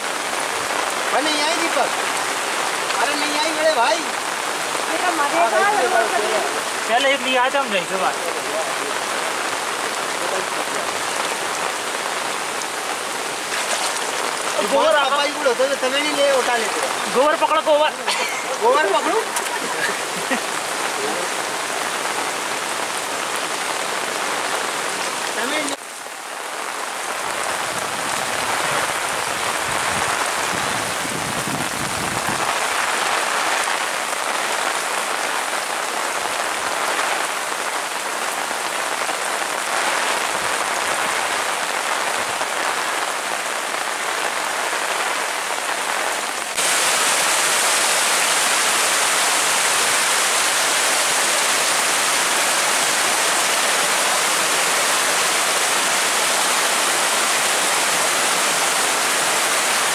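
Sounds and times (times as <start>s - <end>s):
floodwater rushing down channel: 0.0s - 59.9s
heavy rain on water: 0.0s - 59.9s.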